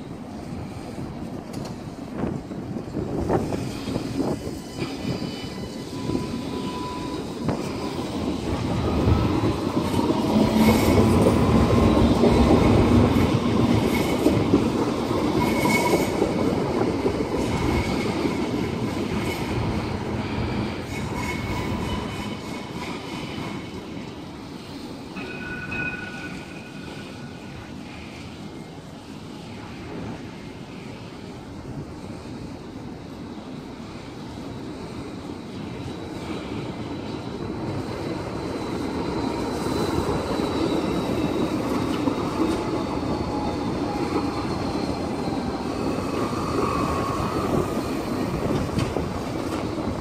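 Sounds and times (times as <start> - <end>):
tram rolling past: 0.0 - 50.0.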